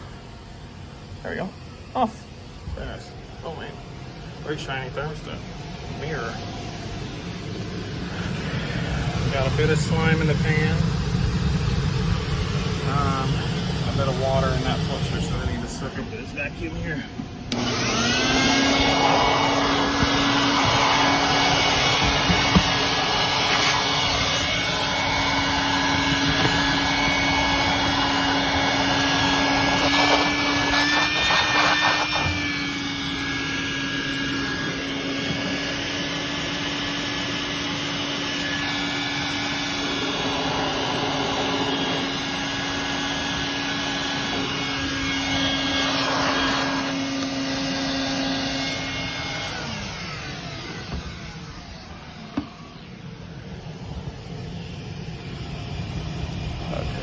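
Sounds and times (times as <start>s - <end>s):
shop vacuum humming: 0.0s - 57.0s.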